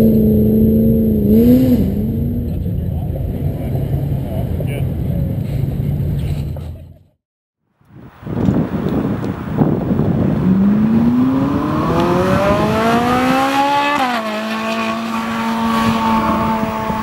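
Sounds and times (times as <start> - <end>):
car engine accelerating: 0.0 - 6.7, 9.6 - 17.0.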